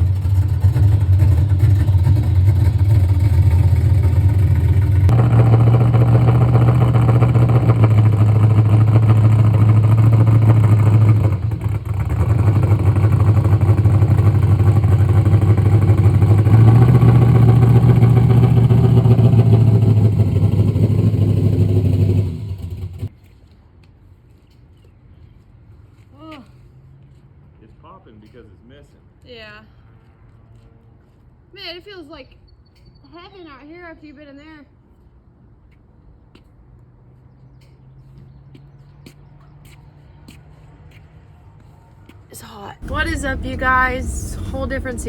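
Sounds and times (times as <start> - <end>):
vehicle engine and road drone: 0.0 - 31.5, 34.1 - 45.0.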